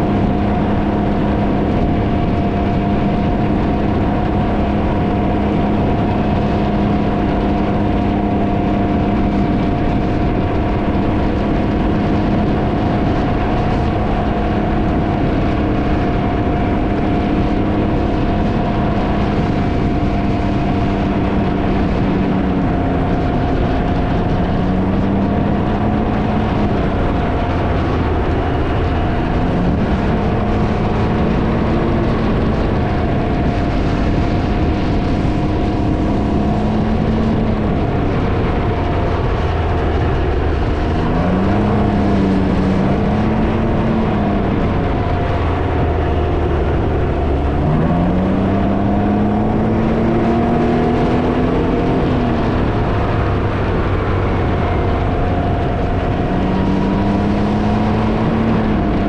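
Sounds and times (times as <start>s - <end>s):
vehicle engine running: 0.0s - 59.0s
wind noise on microphone: 0.0s - 59.0s.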